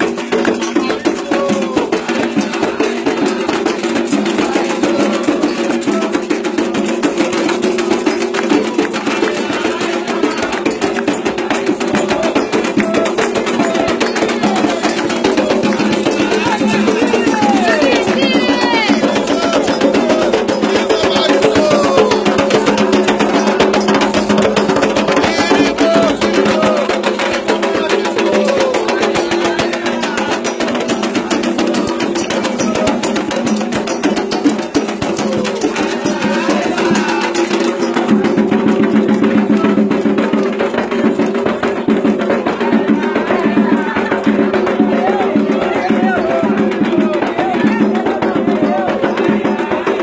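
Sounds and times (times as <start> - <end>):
group singing a chant: 0.0 - 50.0
hand drums playing fast rhythm: 0.0 - 50.0
percussion time-keeping pattern: 0.0 - 50.0.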